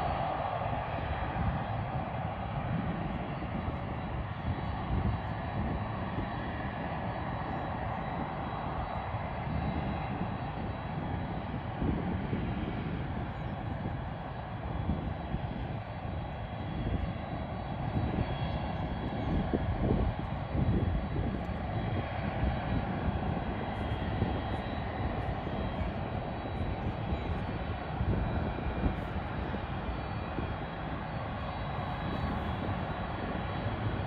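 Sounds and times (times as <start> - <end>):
jet engines whining at taxi: 0.0 - 34.0.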